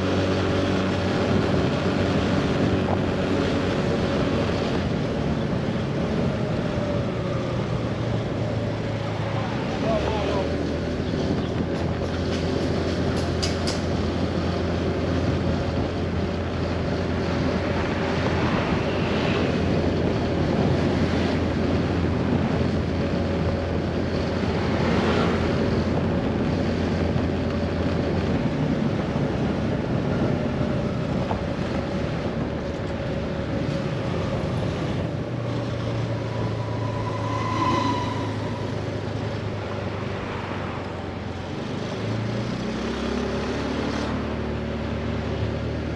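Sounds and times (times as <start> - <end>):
wind and road noise: 0.0 - 45.9.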